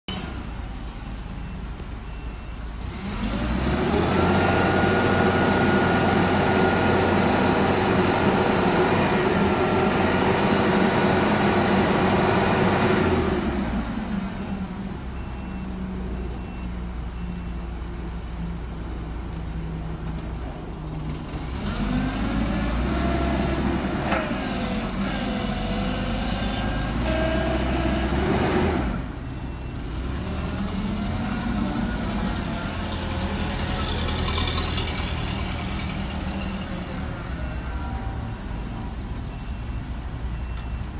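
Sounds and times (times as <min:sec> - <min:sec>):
forklift engine idling and revving: 0:00.1 - 0:40.9.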